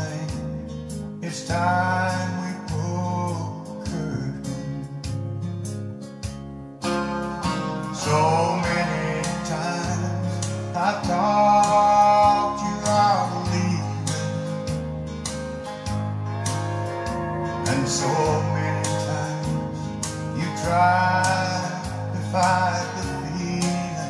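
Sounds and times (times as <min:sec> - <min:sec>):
bass line: 0:00.0 - 0:24.0
song with guitar and singing: 0:00.0 - 0:24.0.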